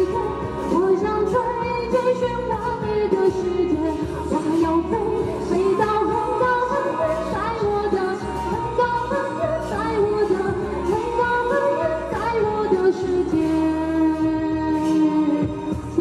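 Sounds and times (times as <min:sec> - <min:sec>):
backing music: 0:00.0 - 0:16.0
woman singing pop song: 0:00.0 - 0:16.0.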